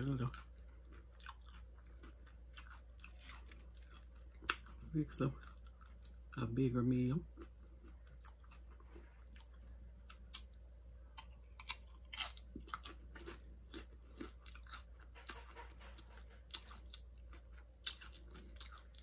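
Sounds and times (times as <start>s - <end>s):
person chewing crisp chips: 0.0s - 19.0s.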